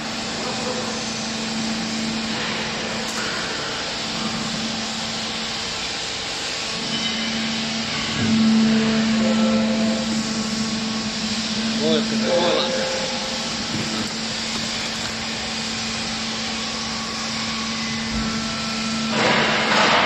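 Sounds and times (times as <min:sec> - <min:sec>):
hydraulic machine hum and hiss: 0:00.0 - 0:20.0.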